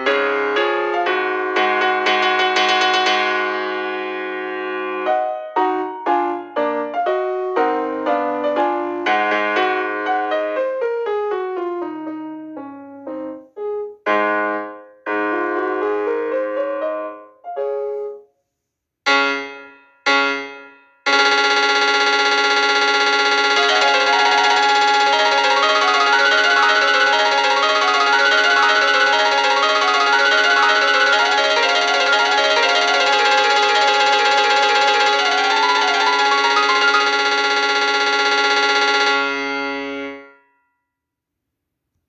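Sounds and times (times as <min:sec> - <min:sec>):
piano alarm melody: 0:00.0 - 0:18.2, 0:19.1 - 0:40.6.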